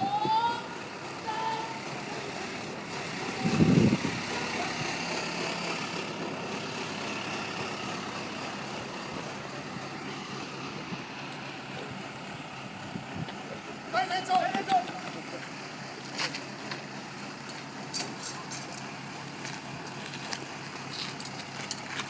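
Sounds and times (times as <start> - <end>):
fire engine pump running: 0.0 - 22.0.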